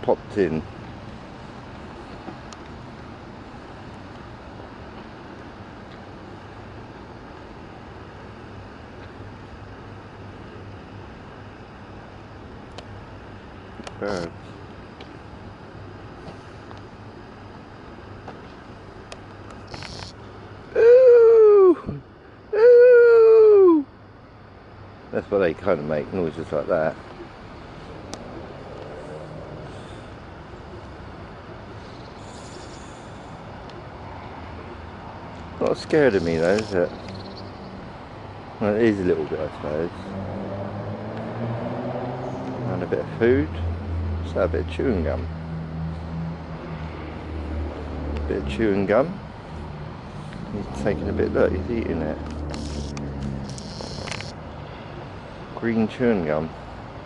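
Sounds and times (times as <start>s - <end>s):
background traffic rumble: 0.0s - 57.0s.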